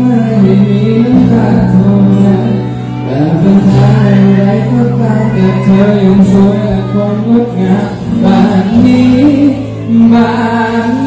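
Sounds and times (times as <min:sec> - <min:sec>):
amplified backing music: 0:00.0 - 0:11.0
man singing into microphone: 0:00.0 - 0:11.0.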